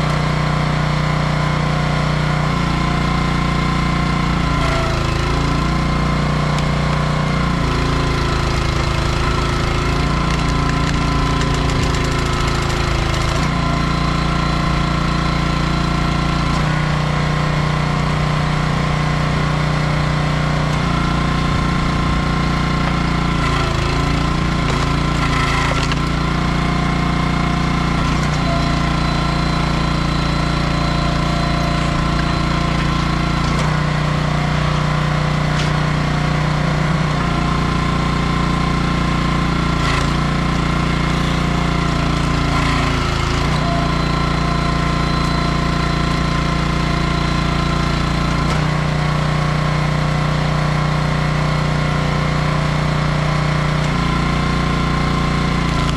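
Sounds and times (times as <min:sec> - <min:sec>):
small gas engine running: 0:00.0 - 0:55.9.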